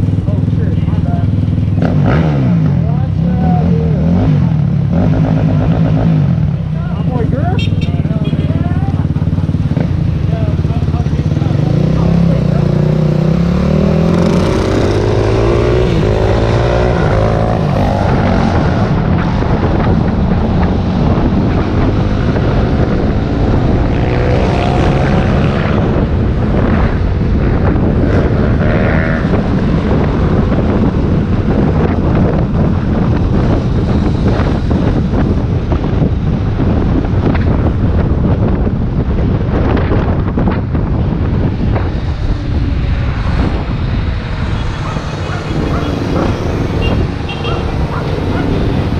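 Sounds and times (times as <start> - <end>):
vehicle noise: 0.0 - 48.9
wind rumble on microphone: 0.0 - 48.9.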